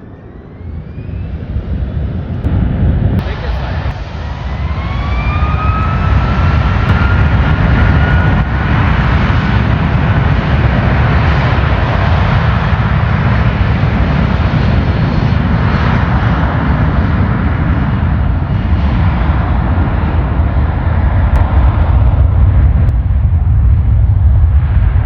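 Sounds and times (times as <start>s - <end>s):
jet engines whining and roaring: 0.0s - 25.0s.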